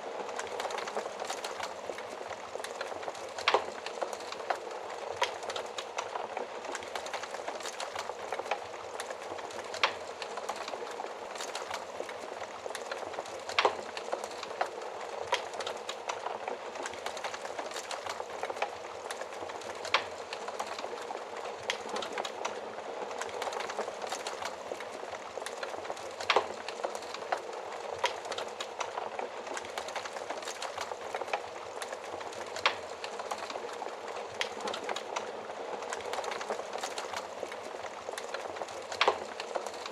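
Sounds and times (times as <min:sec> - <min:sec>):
wood fire burning: 0:00.0 - 0:39.9.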